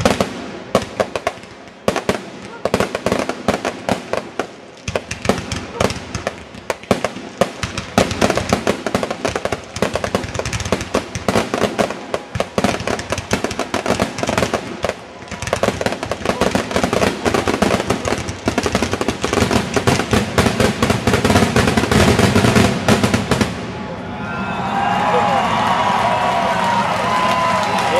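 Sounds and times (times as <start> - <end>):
fireworks firing and bursting: 0.0 - 24.0.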